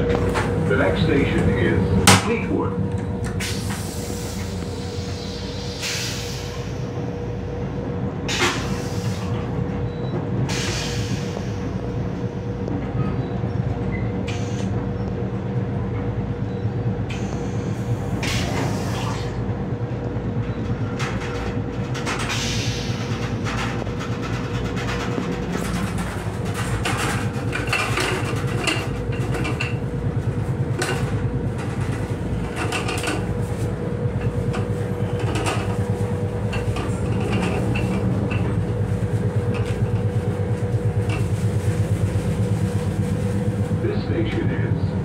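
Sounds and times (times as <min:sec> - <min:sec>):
train rumble and hum: 0:00.0 - 0:45.0.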